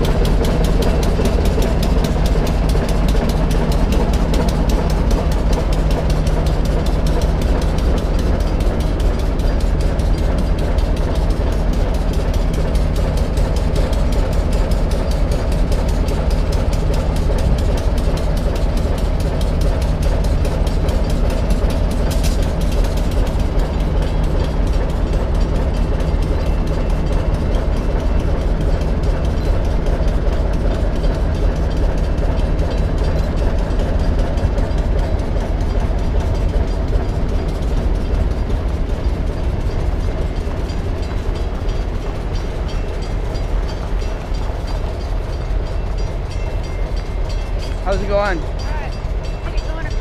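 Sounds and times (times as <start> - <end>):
passenger train rumble: 0.0 - 50.0
wheels clattering on rails: 0.0 - 50.0.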